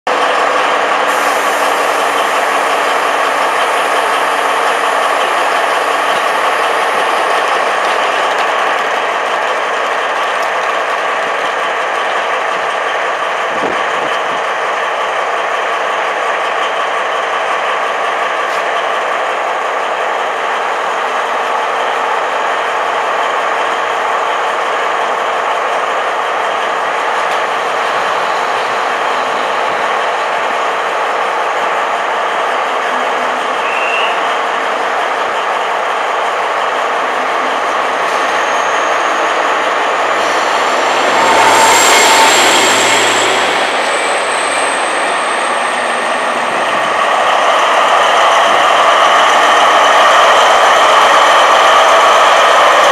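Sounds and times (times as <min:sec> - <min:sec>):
diesel locomotive engine running: 0:00.1 - 0:52.9.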